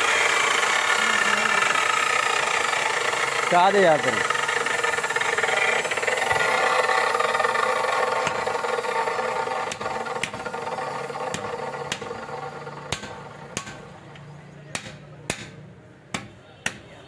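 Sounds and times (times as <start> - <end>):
sharp metallic ticks: 0.0 - 14.3
tractor engine running: 0.0 - 14.8.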